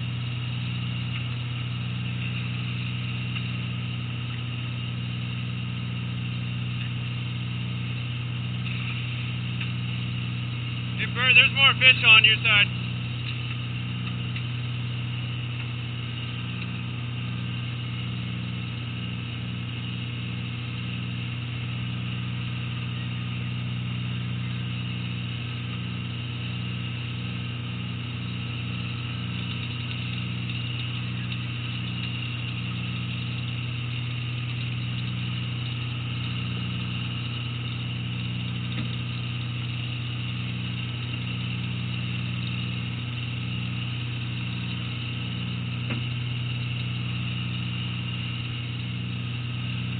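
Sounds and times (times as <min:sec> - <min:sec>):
boat engine droning: 0:00.0 - 0:49.9.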